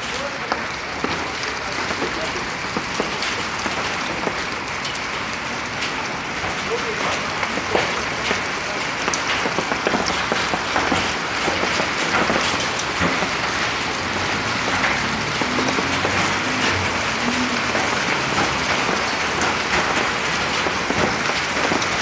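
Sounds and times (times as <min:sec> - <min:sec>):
dense hiss of rain: 0:00.0 - 0:22.0
hailstones ticking on surfaces: 0:00.0 - 0:22.0.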